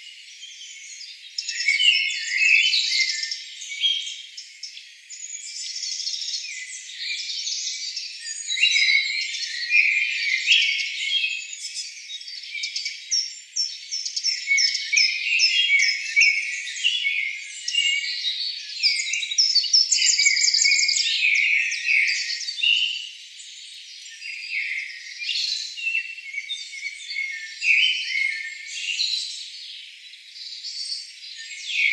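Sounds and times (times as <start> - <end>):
forest birds chirping: 0.0 - 31.9.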